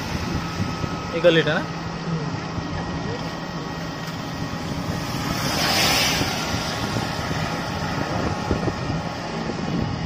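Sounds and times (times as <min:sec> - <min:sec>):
rickshaw engine drone: 0:00.0 - 0:10.0
wet road noise: 0:00.0 - 0:10.0.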